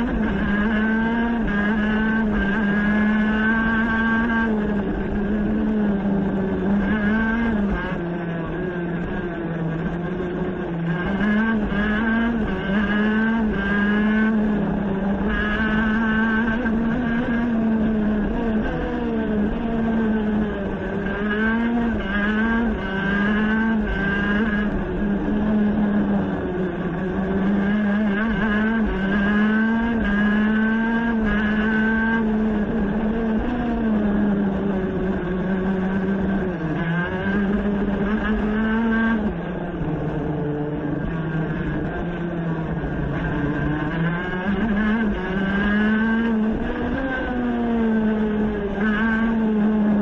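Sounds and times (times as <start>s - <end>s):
racing engine revving: 0.0s - 50.0s.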